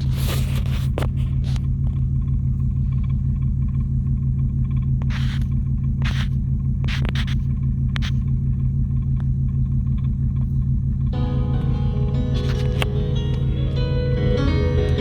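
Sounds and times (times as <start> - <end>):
deep bass from subwoofer: 0.0 - 15.0.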